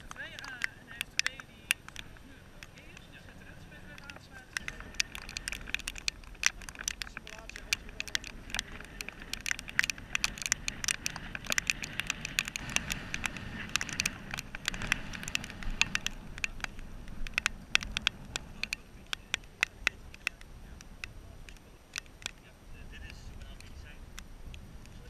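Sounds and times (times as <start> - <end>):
medical gear clicking: 0.0 - 25.0.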